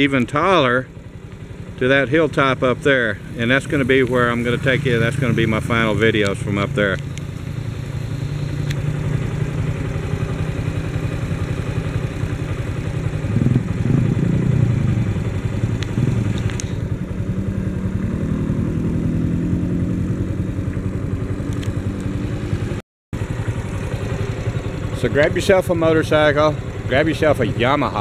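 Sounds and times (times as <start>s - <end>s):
motorcycle engine idling: 0.0s - 28.0s
second engine rising in pitch: 1.8s - 28.0s.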